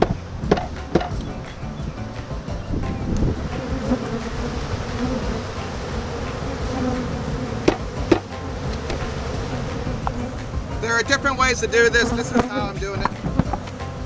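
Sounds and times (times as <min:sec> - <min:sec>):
sharp knocks: 0:00.0 - 0:10.9, 0:12.3 - 0:14.0
honeybees buzzing: 0:00.0 - 0:14.0.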